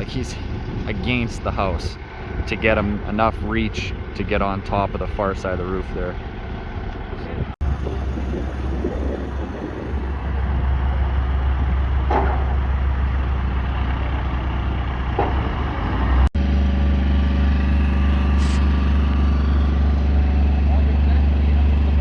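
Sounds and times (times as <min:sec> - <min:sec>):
crane engine humming: 0:00.0 - 0:22.0.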